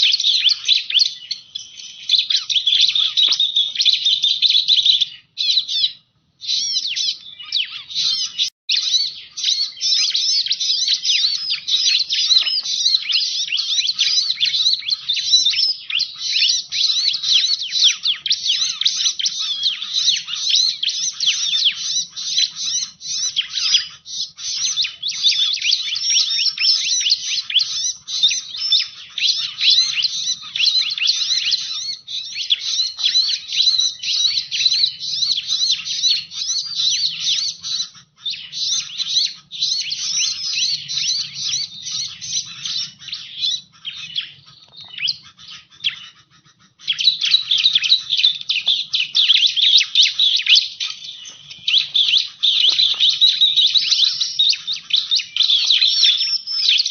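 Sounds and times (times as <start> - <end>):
bird chirping and twittering: 0.0 - 56.9.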